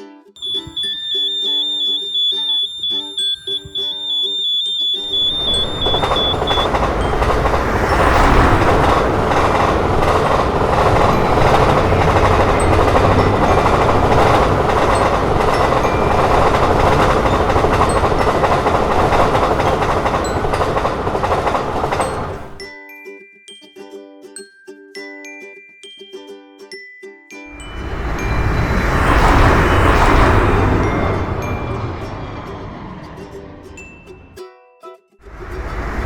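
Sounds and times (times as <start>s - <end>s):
crossing warning tone: 0.4s - 22.6s, 27.5s - 34.4s, 35.3s - 36.0s
train rumbling past: 0.4s - 22.7s, 27.5s - 34.4s, 35.2s - 36.0s.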